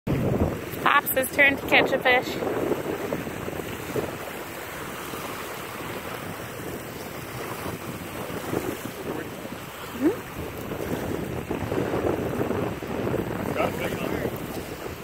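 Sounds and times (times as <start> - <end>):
small waves lapping shore: 0.1 - 15.0
wind buffeting microphone: 0.1 - 15.0.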